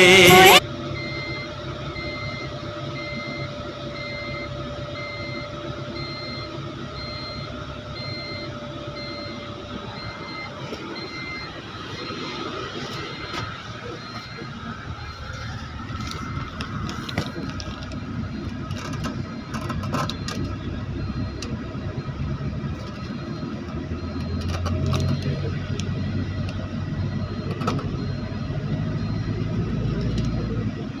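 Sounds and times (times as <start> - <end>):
deep engine hum: 0.0 - 31.0
vehicle engines running: 0.0 - 31.0.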